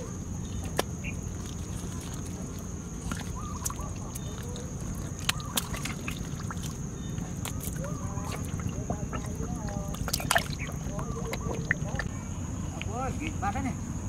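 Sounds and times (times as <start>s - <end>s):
faint animal calls: 0.0s - 12.4s
fish splashing in water: 0.0s - 12.6s.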